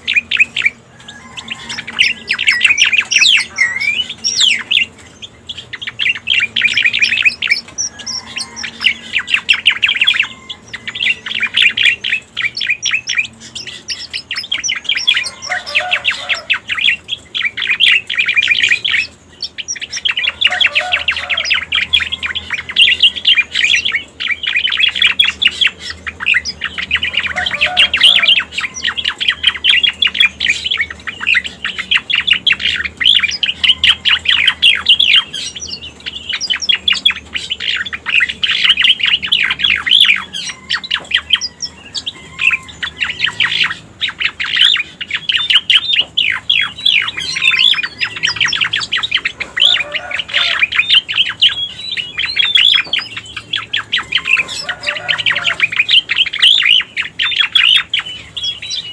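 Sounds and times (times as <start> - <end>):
bird chattering chirps: 0.0 - 58.9.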